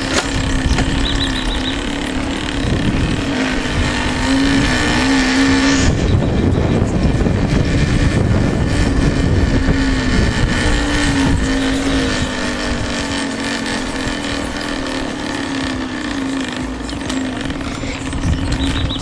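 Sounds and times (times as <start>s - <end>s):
heavy low rumble: 0.0s - 19.0s
small engine running: 0.0s - 19.0s.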